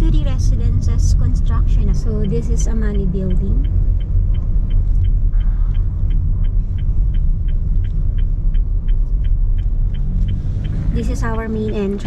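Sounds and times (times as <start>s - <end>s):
car engine rumbling: 0.0s - 12.0s
light even ticking: 0.0s - 12.0s.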